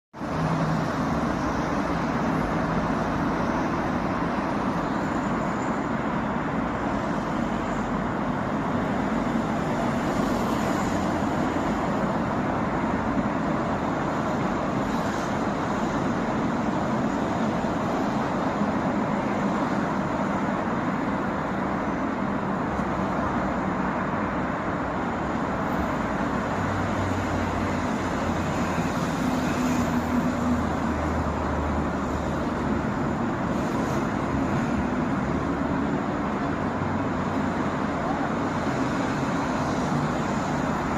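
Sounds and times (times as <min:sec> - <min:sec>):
dense motorway traffic: 0:00.1 - 0:40.9
heavy vehicle engine hum: 0:00.2 - 0:40.9.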